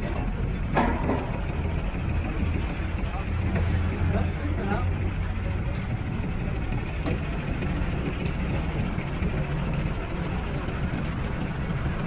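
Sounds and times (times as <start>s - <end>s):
engine running with low rumble: 0.0s - 12.0s.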